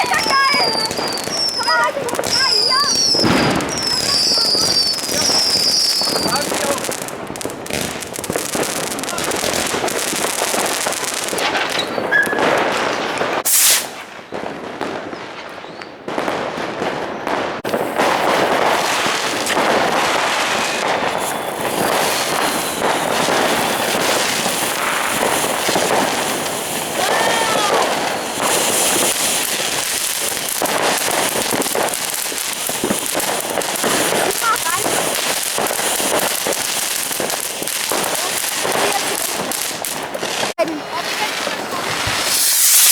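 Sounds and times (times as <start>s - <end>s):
firecrackers crackling and popping: 0.0s - 42.9s
whistling fireworks: 0.0s - 42.9s.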